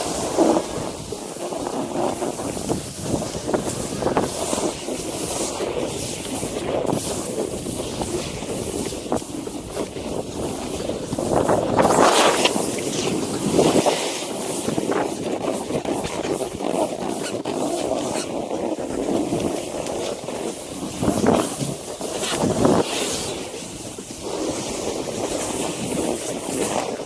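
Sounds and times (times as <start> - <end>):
snowboard sliding through powder: 0.0 - 27.0
wind over microphone: 0.0 - 27.0.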